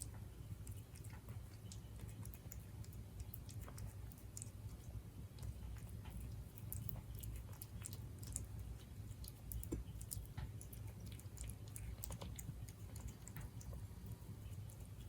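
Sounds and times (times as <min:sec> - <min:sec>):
cat chewing food: 0:00.0 - 0:15.0.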